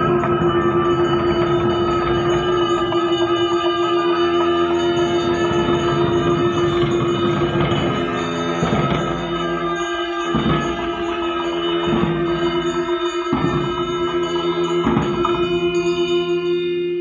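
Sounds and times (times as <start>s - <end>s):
ringing bells: 0.0s - 17.0s
steady held note: 0.0s - 17.0s.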